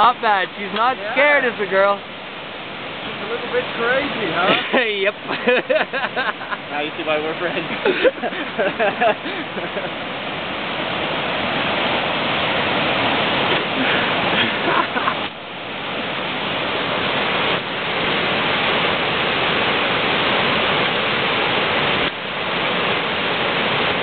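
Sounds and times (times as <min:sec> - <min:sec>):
white-water river roaring: 0:00.0 - 0:24.0.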